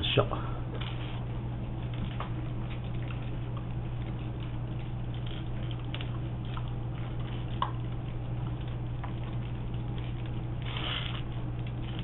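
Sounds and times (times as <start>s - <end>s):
steady low hum: 0.0s - 12.0s
dog eating dry kibble: 1.8s - 12.0s.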